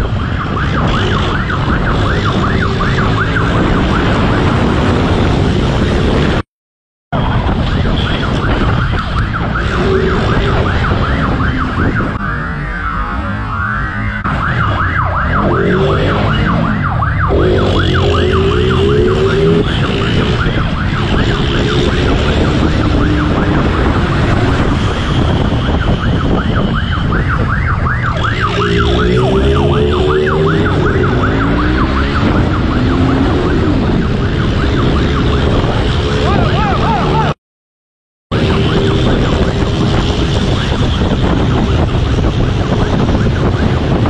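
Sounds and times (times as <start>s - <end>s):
police siren yelping: 0.0s - 5.2s, 7.4s - 37.4s, 38.3s - 44.0s
vehicle engine and wind noise: 0.0s - 6.4s, 7.1s - 37.4s, 38.3s - 44.0s.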